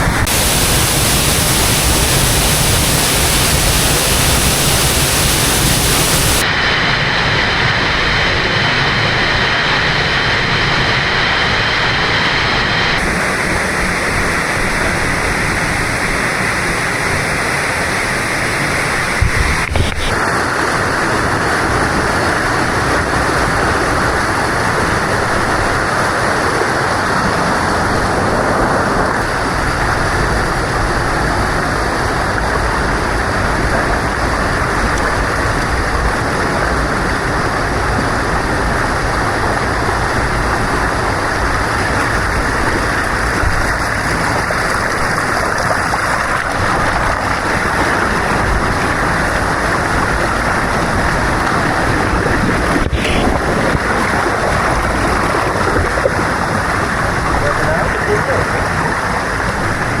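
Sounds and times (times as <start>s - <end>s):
waterfall: 0.0s - 60.0s.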